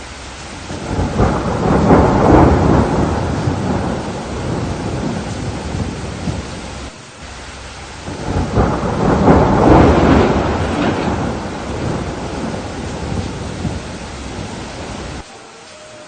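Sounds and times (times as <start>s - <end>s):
steady rain: 0.0s - 16.0s
thunder rumbling: 0.5s - 16.0s.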